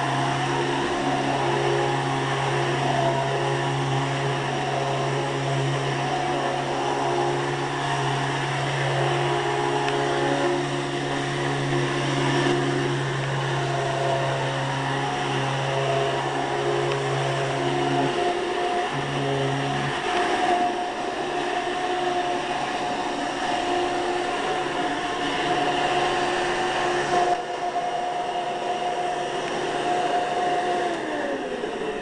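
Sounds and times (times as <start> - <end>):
vacuum cleaner motor whine: 0.0 - 32.0.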